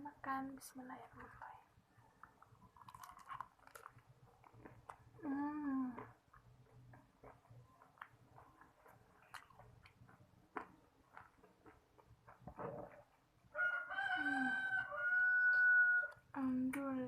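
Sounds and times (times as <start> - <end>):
fried chicken being chewed: 1.9 - 16.2.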